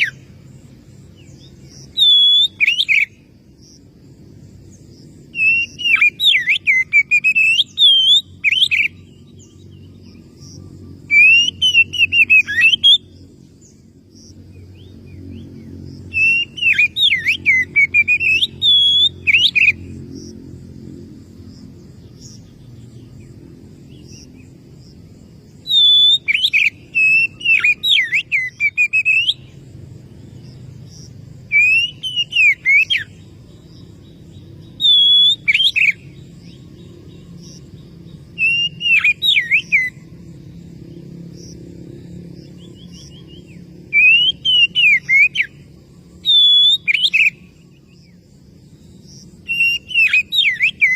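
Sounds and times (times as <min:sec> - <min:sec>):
bird singing whistled notes: 0:00.0 - 0:03.8, 0:04.7 - 0:20.4, 0:25.4 - 0:41.6, 0:42.4 - 0:50.9
steady low hum: 0:00.0 - 0:50.9.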